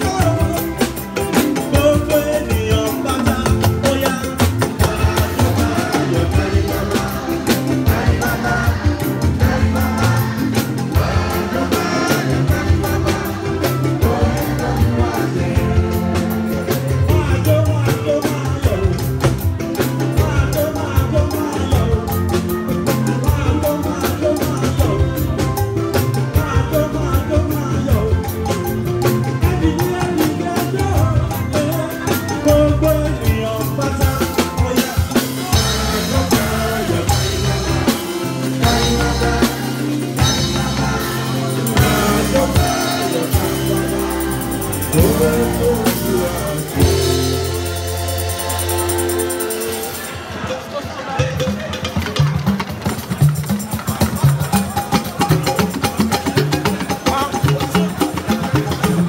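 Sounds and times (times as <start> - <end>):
voices singing: 0.0 - 51.6
upbeat band music: 0.0 - 59.0.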